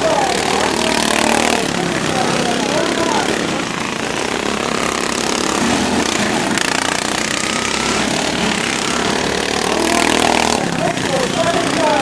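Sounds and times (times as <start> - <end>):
loud lawnmower engines running: 0.0 - 12.0.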